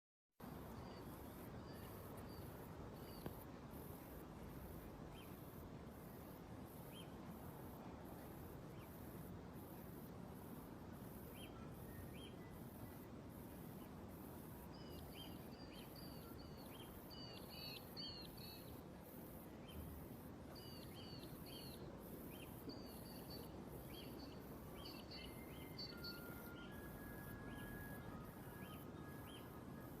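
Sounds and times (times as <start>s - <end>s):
steady background hiss: 0.4s - 30.0s.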